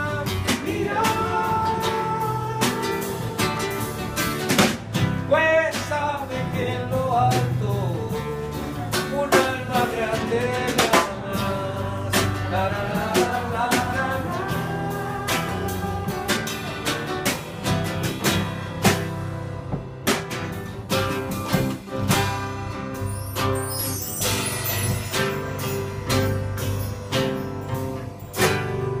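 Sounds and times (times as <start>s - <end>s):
drum kit hits: 0.0s - 23.3s
guitars playing: 0.0s - 29.0s.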